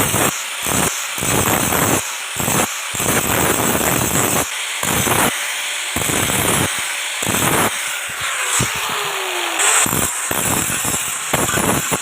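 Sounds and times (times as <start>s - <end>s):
metalworking tool working steel: 0.0s - 12.0s.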